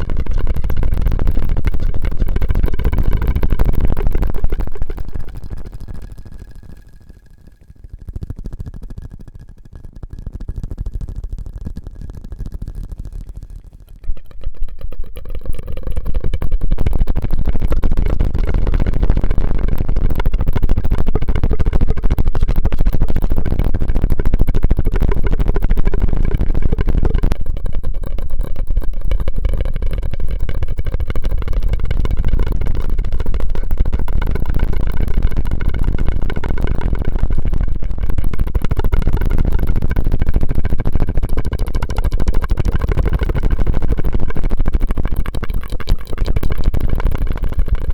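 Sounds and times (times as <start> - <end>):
asmr mouth and straw sounds: 0.0 - 47.9.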